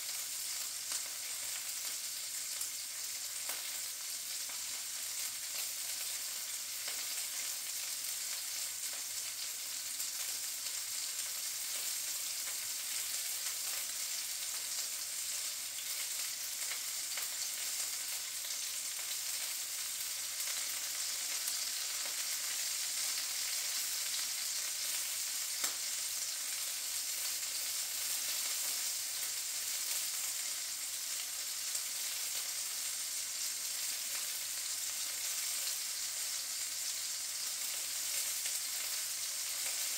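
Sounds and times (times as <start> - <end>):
sausages sizzling in a pan: 0.0 - 39.9.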